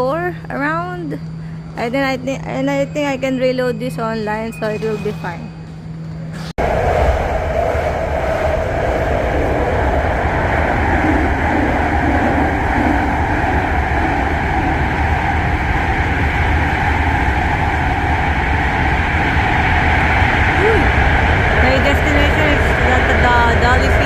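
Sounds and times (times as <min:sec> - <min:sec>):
high-pitched whine: 0:00.0 - 0:24.0
train rumbling: 0:00.0 - 0:24.0.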